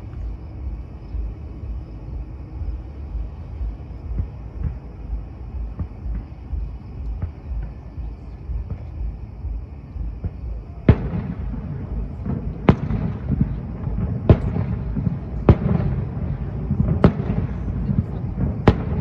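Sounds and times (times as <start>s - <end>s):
fireworks bursting: 0.0s - 19.0s
steady low rumble: 0.0s - 19.0s.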